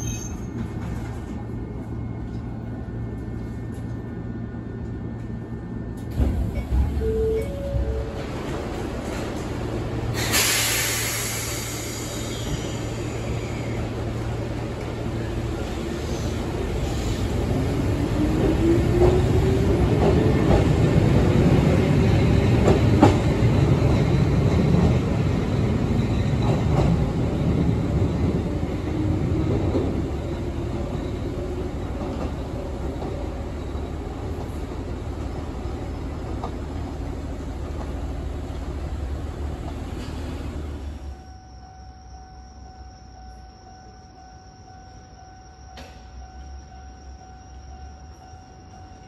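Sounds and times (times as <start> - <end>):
train rumble: 0.0 - 49.0.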